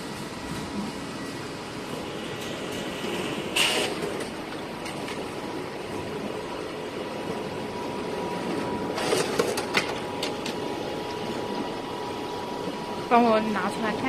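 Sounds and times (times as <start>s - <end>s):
printer whirring: 0.0s - 14.0s.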